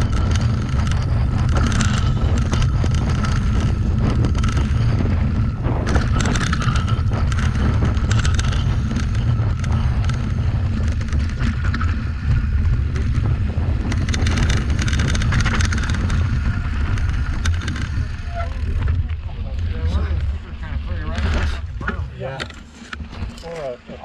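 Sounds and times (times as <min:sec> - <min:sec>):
wind buffeting microphone: 0:00.0 - 0:23.8
bike rattling and clicking: 0:00.0 - 0:24.0
tyres rolling over dirt and rock: 0:00.0 - 0:24.0.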